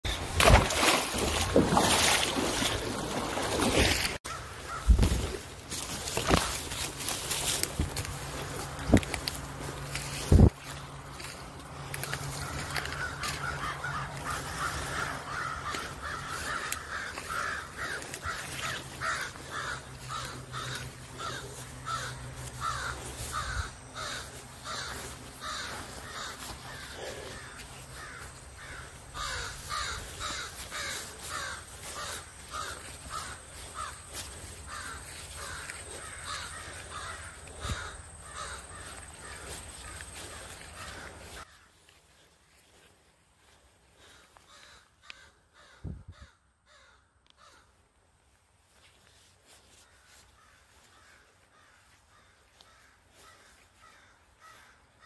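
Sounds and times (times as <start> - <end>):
crow cawing: 4.3 - 9.2, 11.2 - 41.9, 43.9 - 47.8, 49.6 - 55.0.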